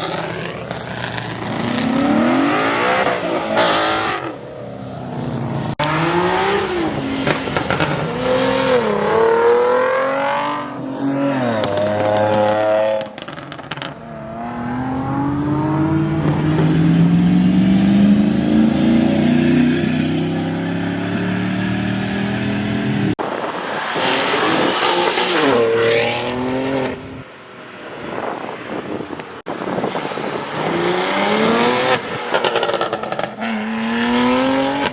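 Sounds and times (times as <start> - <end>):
cars accelerating hard: 0.0 - 34.9.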